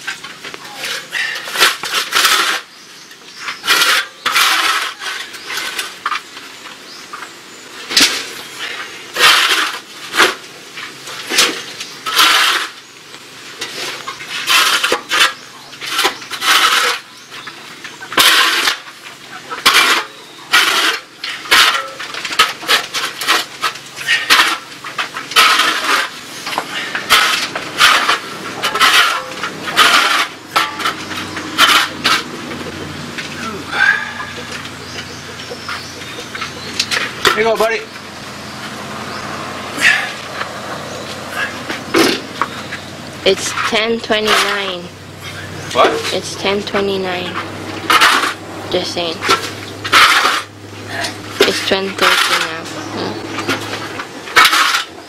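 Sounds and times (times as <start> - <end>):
shovel scraping concrete floor: 0.0 - 6.4, 7.8 - 12.9, 13.5 - 37.9, 39.8 - 55.0.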